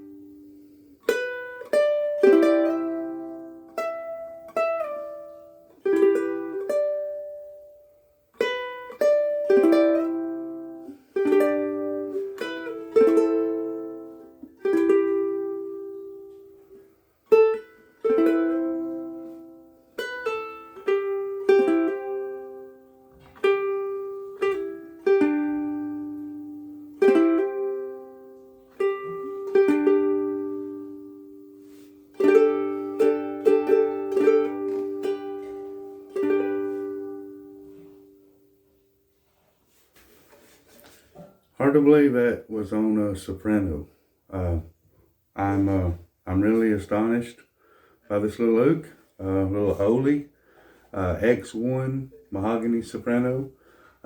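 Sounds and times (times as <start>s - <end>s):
ukulele chords plucked and strummed: 0.0s - 39.0s, 48.4s - 53.5s.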